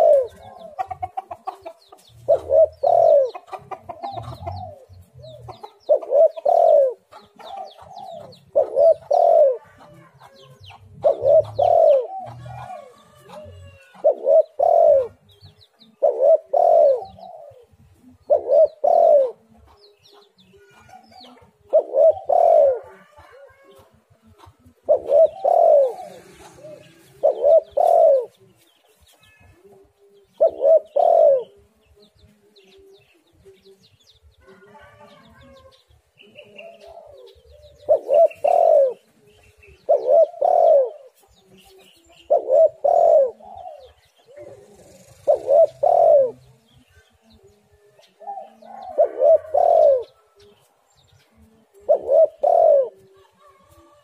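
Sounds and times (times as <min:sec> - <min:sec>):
dove cooing: 0:00.0 - 0:28.6, 0:29.2 - 0:31.8, 0:34.5 - 0:50.6, 0:51.3 - 0:54.0.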